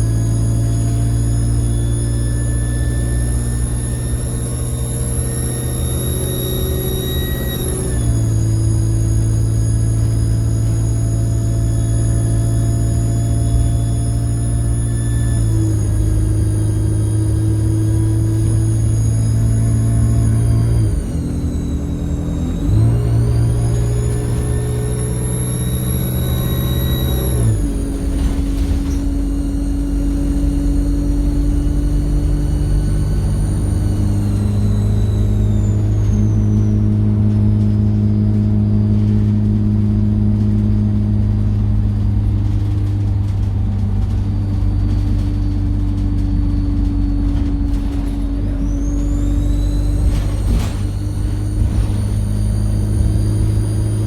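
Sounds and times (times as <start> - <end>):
turbocharger whistling: 0.0 - 43.4, 44.0 - 54.0
bus diesel engine running: 0.0 - 54.0.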